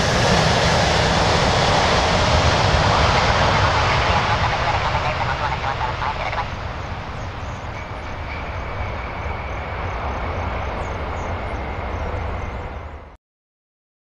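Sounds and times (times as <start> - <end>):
jet airliner landing: 0.0 - 13.2.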